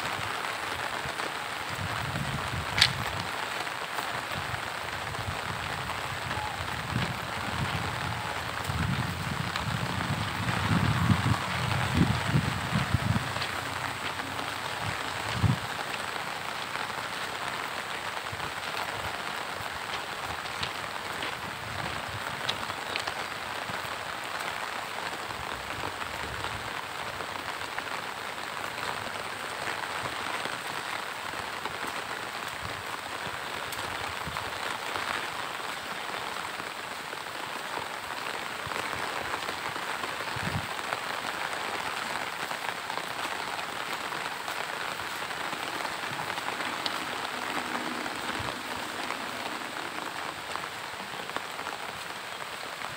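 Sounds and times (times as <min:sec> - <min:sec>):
rain on leaves and grass: 0:00.0 - 0:52.9.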